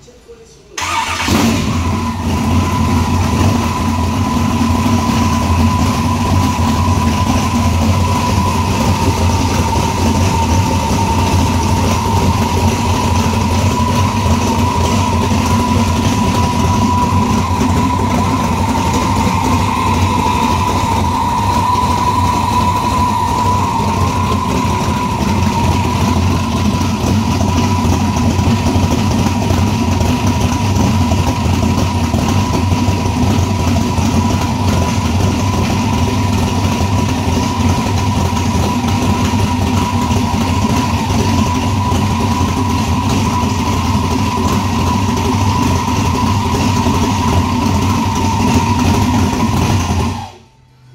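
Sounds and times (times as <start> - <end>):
car engine idling: 0.8 - 50.9
high-pitched turbo whine: 1.2 - 50.9.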